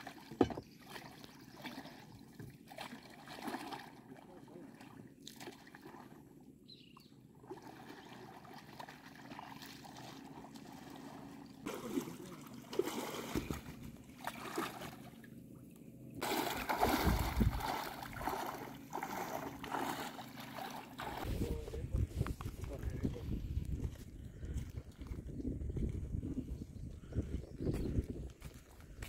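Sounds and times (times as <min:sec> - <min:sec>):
water splashing and sloshing: 0:00.0 - 0:22.8, 0:23.7 - 0:26.2.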